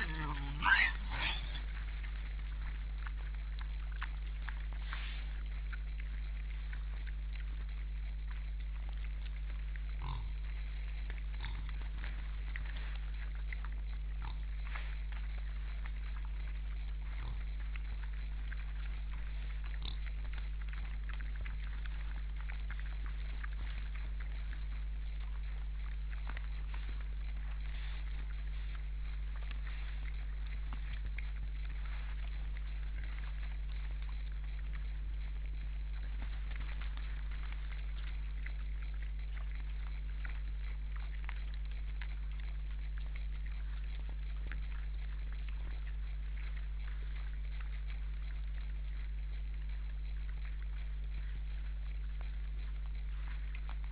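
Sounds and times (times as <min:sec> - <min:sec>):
boars crunching and chewing: 0:00.0 - 0:53.9
low electrical hum: 0:00.0 - 0:53.9.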